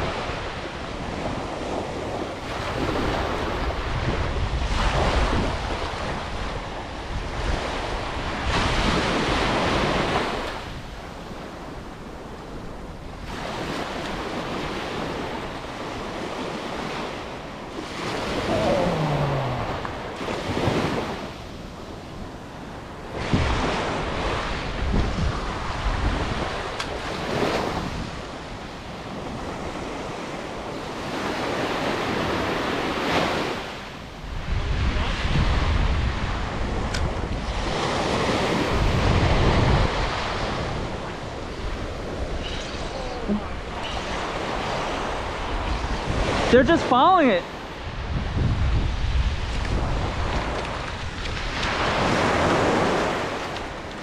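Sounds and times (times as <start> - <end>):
small waves breaking on sand: 0.0 - 54.0
wind rumbling on microphone: 0.0 - 54.0.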